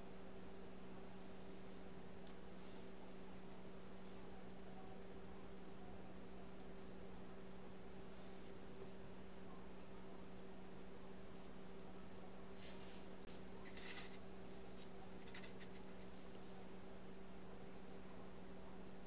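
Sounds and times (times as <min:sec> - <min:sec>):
low electrical hum: 0:00.0 - 0:19.0
paintbrush scratching on paper: 0:00.1 - 0:04.6, 0:05.4 - 0:16.8.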